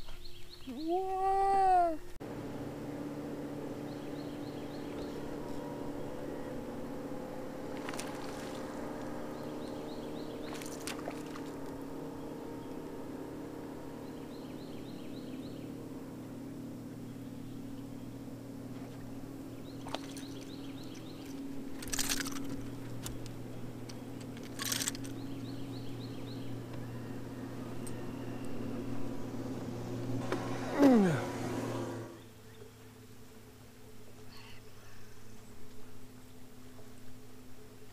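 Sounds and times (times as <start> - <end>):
electric trolling motor humming: 0.2 - 37.9.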